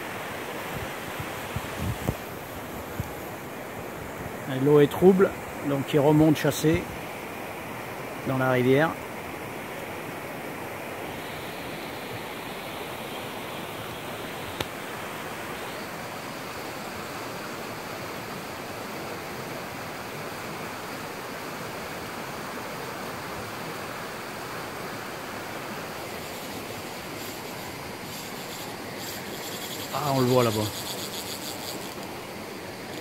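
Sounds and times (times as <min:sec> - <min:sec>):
rushing river: 0:00.0 - 0:33.0.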